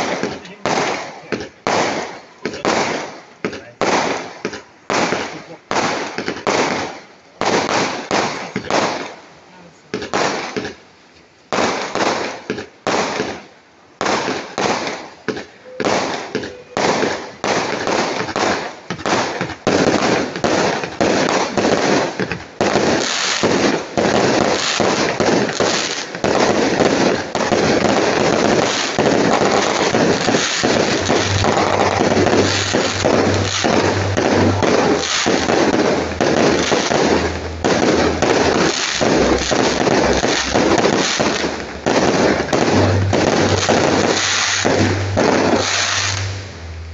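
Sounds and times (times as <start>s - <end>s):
fireworks bangs and crackle: 0.0s - 10.9s, 11.5s - 46.9s.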